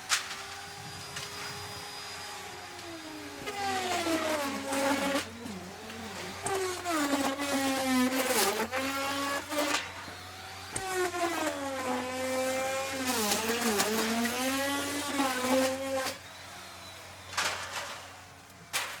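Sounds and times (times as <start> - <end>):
wood router whining: 0.0 - 18.8.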